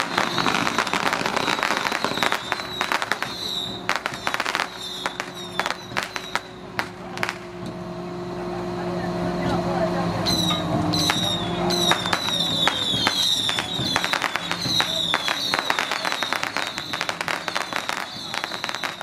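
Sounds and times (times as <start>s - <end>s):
firecrackers cracking: 0.0s - 7.8s, 10.3s - 19.0s.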